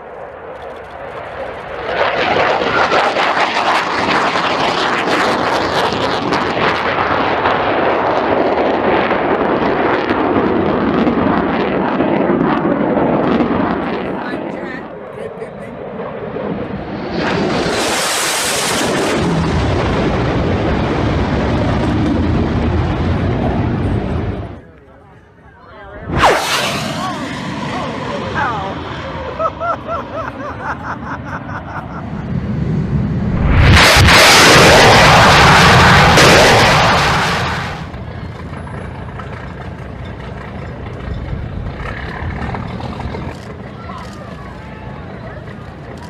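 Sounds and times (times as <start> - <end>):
jet engine roar with crackle: 0.0 - 25.1, 25.8 - 46.0.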